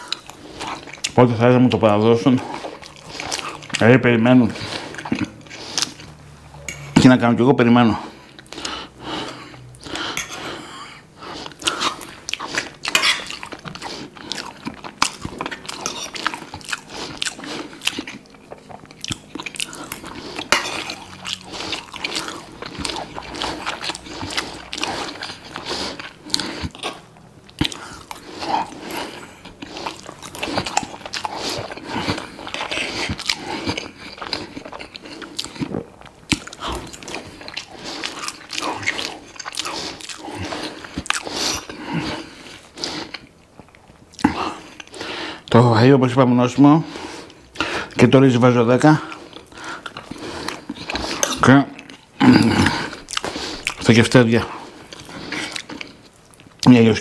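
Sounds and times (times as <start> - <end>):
man chewing food: 0.0 - 7.2, 7.9 - 45.6, 46.6 - 56.8.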